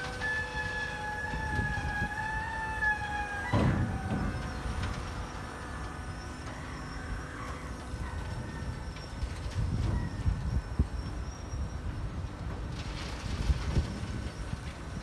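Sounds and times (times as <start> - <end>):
crane machinery whine: 0.0 - 15.0
low machinery rumble: 0.0 - 15.0
machinery clatter: 0.0 - 15.0.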